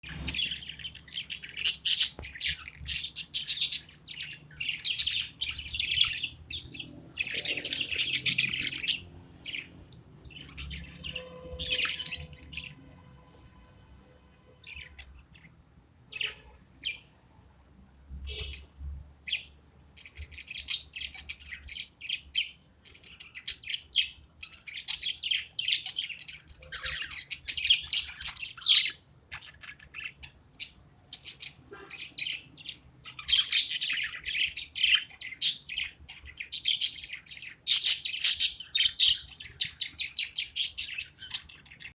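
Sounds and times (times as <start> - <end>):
budgerigars chattering and chirping: 0.0 - 13.5, 16.1 - 17.1, 18.3 - 41.9.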